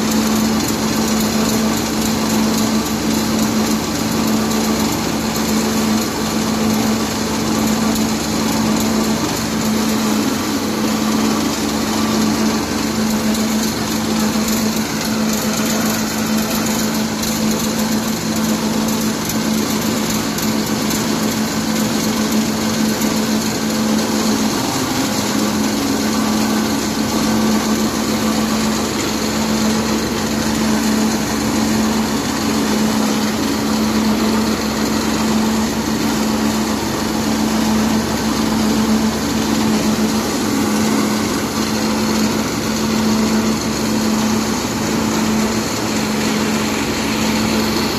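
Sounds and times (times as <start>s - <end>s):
pellet mill machinery droning: 0.0s - 47.9s.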